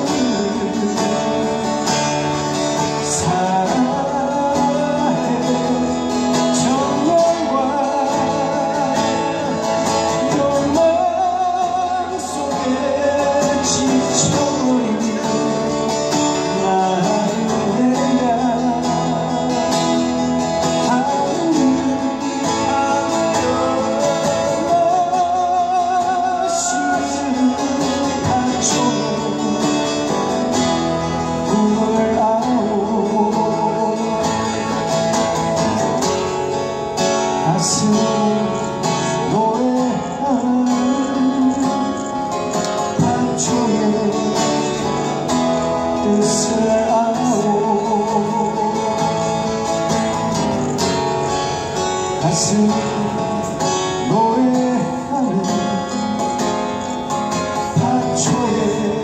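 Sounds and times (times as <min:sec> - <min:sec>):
acoustic guitars strummed and picked: 0:00.0 - 0:59.0
man singing: 0:00.0 - 0:59.0.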